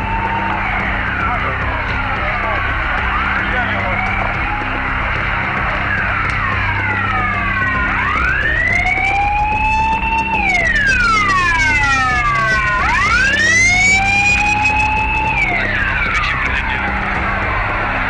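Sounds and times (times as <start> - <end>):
emergency siren wailing: 0.0 - 18.0.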